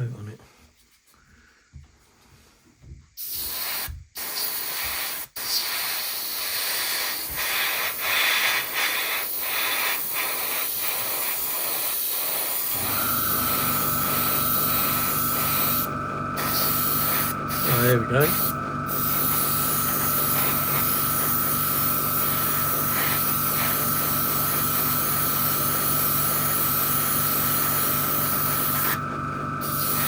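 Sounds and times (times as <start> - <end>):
airbrush hissing: 3.2 - 30.0.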